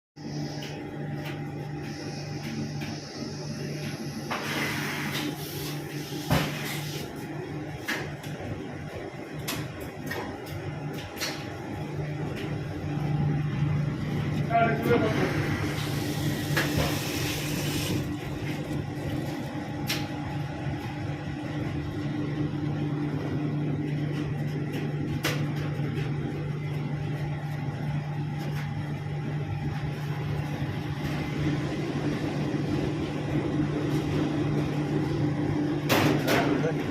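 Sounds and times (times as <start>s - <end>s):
washing machine motor hum: 0.2s - 36.9s.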